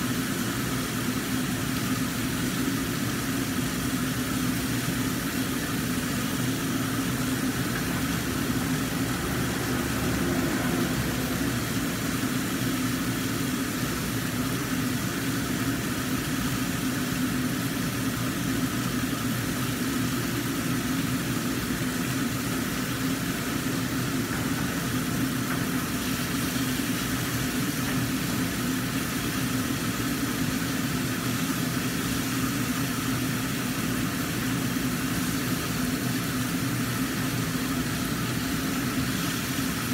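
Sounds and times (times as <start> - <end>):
range hood fan humming: 0.0 - 39.9.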